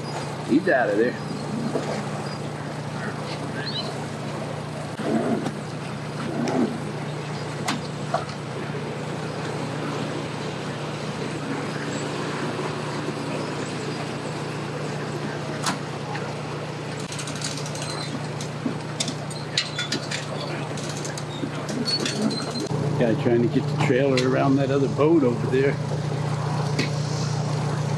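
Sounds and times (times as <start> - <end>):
pickup truck engine idling: 0.0 - 27.9.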